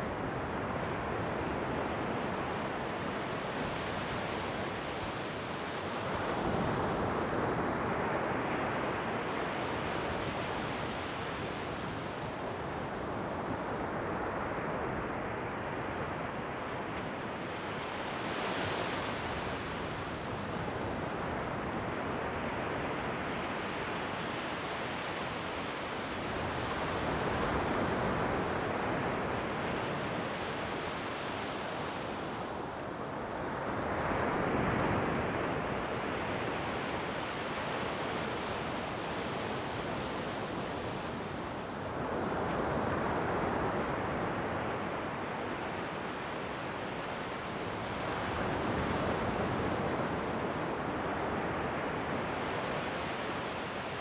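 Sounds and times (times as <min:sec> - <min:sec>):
ocean waves breaking on shore: 0:00.1 - 0:54.0.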